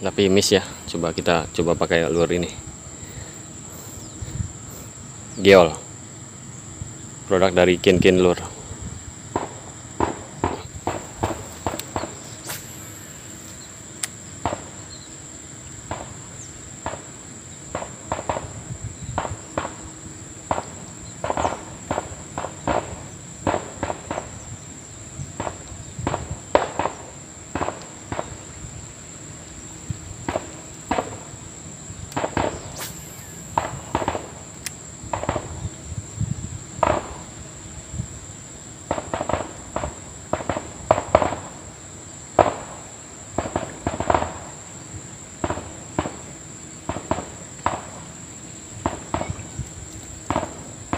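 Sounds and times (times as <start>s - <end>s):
steady high-pitched whine: 0.0s - 50.9s.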